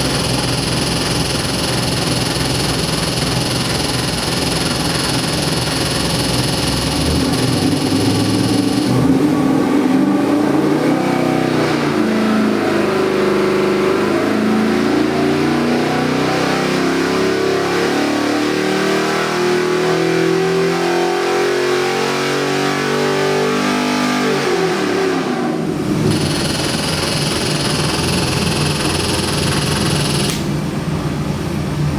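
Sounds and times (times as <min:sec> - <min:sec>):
engine revving on a dyno: 0:00.0 - 0:30.7.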